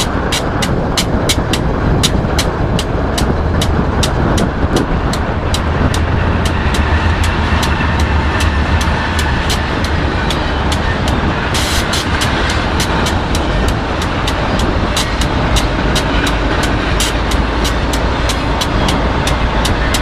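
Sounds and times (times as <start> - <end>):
freight train passing: 0.0 - 20.0
rail clicks: 0.0 - 20.0.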